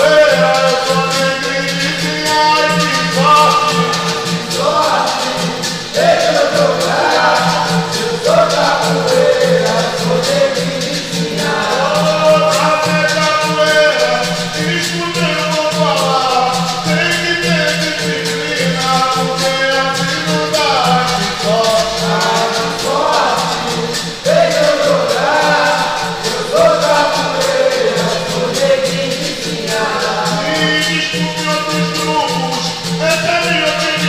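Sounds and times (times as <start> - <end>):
berimbau and tambourine playing: 0.0 - 34.0
group chorus singing: 0.0 - 34.0
hand-clapping: 0.0 - 34.0
lead voice singing: 0.0 - 34.0.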